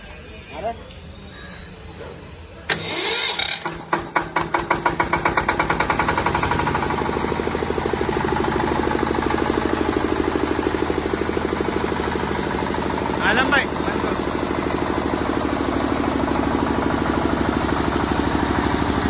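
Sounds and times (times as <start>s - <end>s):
diesel generator engine starting: 2.4s - 19.0s.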